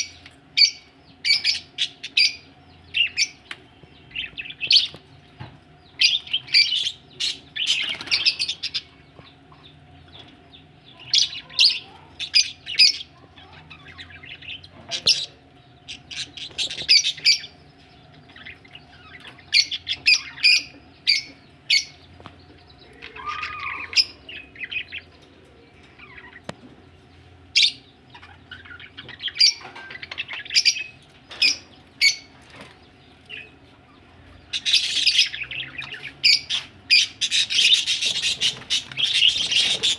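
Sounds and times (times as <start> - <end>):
budgerigars chirping: 0.0 - 25.2, 25.8 - 39.9.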